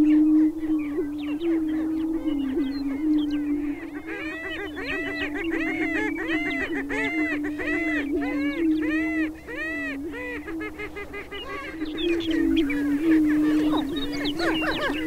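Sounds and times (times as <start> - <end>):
arching bird calls: 0.0 - 15.0
prairie chickens booming: 0.0 - 15.0.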